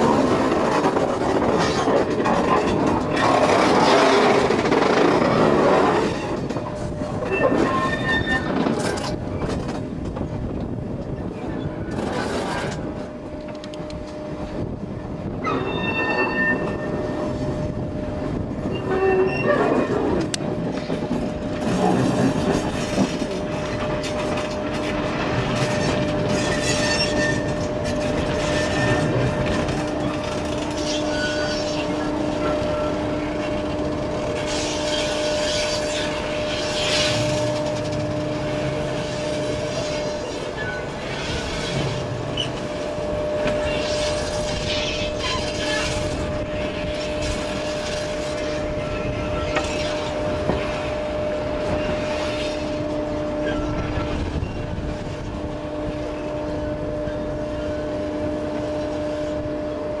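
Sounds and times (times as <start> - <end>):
train trundling along track: 0.0 - 60.0.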